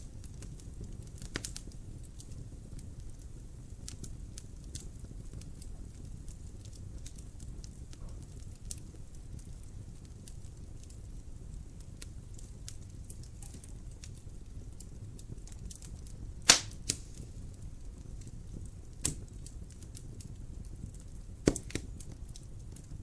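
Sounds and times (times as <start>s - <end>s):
low rumble of flames: 0.0s - 23.0s
sharp pops from burning wood: 0.0s - 23.0s
wood fire crackling: 0.0s - 23.0s.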